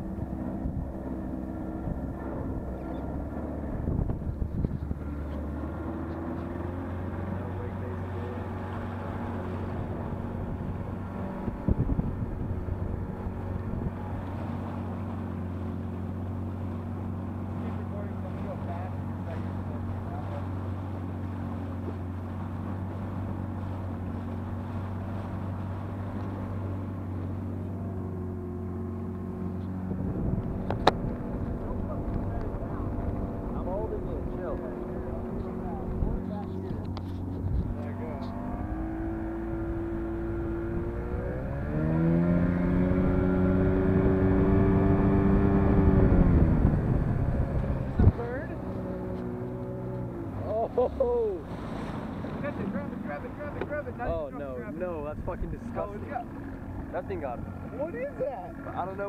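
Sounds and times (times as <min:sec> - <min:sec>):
low rumble: 0:00.0 - 0:59.0
outboard motor running: 0:00.0 - 0:59.0.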